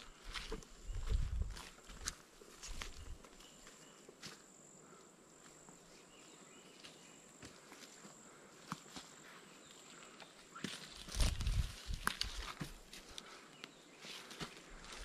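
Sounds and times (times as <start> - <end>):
faint footsteps on trail: 0.0 - 15.0.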